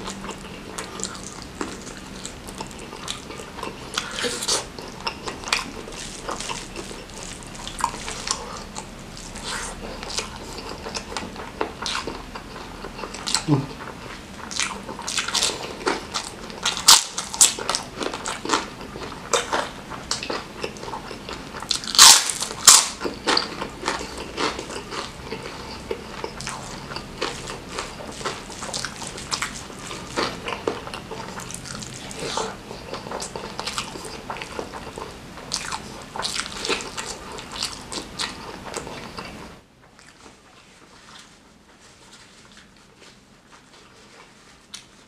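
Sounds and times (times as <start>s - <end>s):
chewing and lip-smacking: 0.0s - 45.0s.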